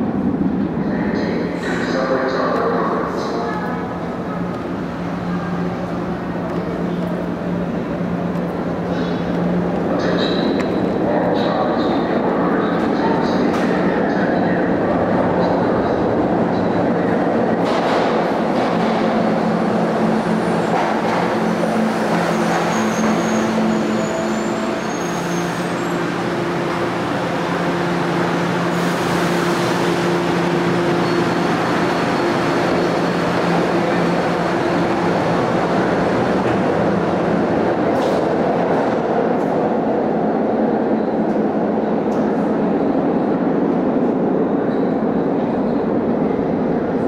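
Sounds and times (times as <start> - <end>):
trolley rumbling on rails: 0.0 - 47.0.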